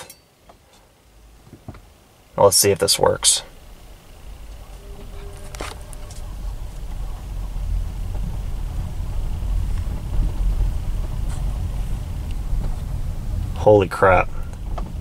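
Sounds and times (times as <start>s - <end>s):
tyres rumbling on road: 1.4s - 15.0s.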